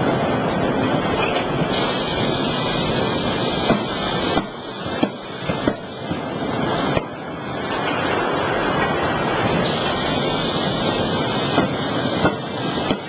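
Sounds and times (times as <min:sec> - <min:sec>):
forging hammer machinery noise: 0:00.0 - 0:13.0.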